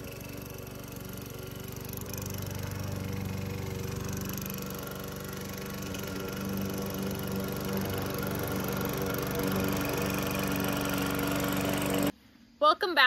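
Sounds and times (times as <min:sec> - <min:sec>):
lawn mower engine running: 0:00.0 - 0:12.1.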